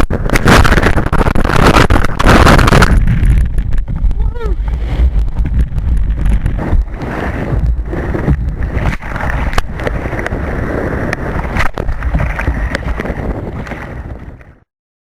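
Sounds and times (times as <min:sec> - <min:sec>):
surf and water rushing: 0:00.0 - 0:14.5
wind buffeting microphone: 0:00.0 - 0:14.6.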